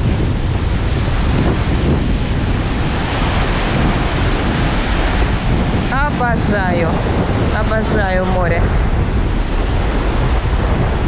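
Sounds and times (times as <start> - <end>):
surf breaking on sandy beach: 0.0 - 11.0
wind buffeting microphone: 0.0 - 11.0.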